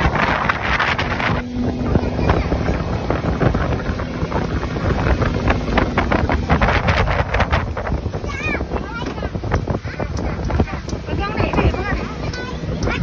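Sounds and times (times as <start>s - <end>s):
hull knocking on water: 0.0s - 13.0s
outboard motor running: 0.0s - 13.0s
wind buffeting on microphone: 0.0s - 13.0s.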